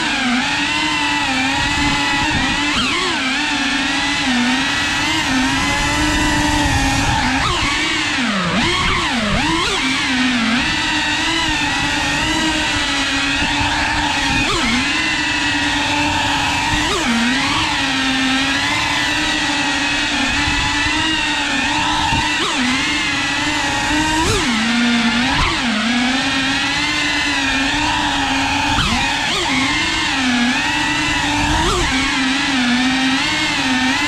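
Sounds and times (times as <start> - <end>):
quadcopter motors buzzing: 0.0 - 34.0.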